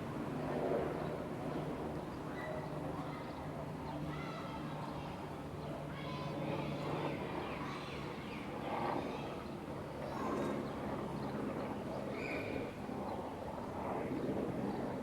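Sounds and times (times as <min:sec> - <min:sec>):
steady low street hum: 0:00.0 - 0:15.0.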